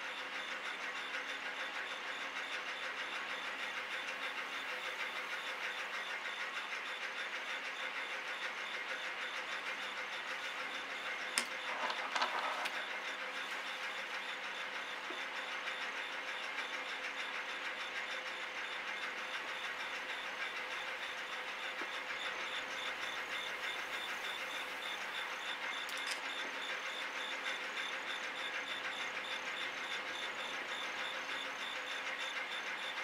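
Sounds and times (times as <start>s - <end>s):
mechanical hum and hiss: 0.0s - 33.0s.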